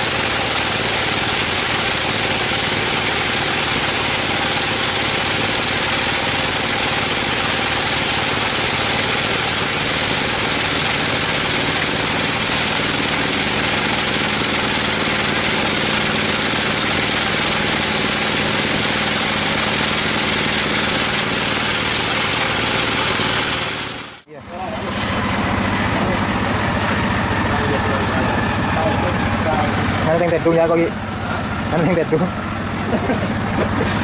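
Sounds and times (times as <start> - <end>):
high machine whine: 0.0 - 34.0
sawmill engine drone: 0.0 - 34.0.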